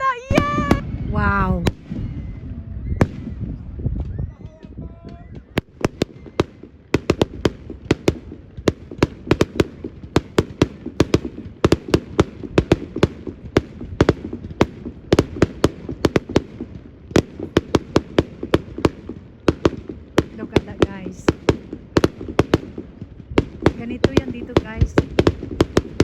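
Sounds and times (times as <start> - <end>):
fireworks bangs and cracks: 0.0 - 26.0
low rumble of bursts: 0.0 - 26.0.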